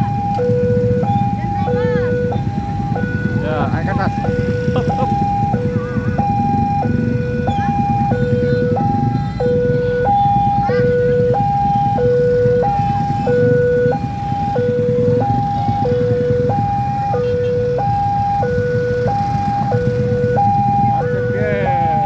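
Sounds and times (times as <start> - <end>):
low rumble of road traffic: 0.0 - 22.0
two-tone crossing alarm: 0.0 - 22.0.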